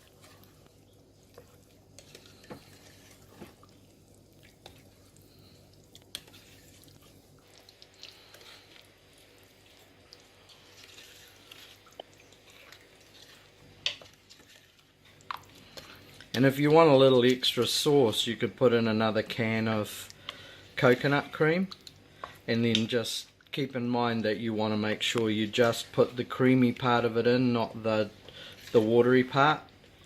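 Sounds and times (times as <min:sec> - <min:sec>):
wet squishing of stirred food: 0:00.0 - 0:30.0.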